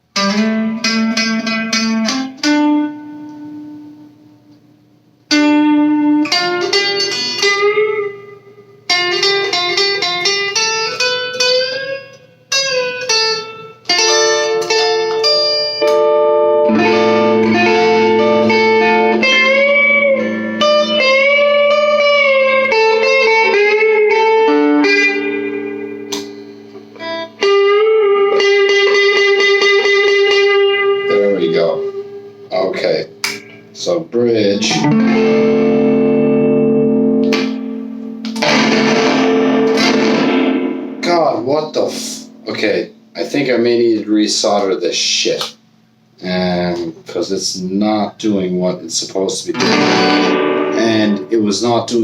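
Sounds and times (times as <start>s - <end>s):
electric guitar playing: 0.0s - 52.0s.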